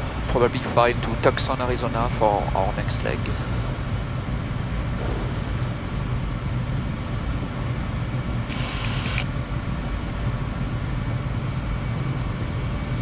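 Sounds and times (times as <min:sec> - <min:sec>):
jet engine low hum: 0:00.0 - 0:13.0.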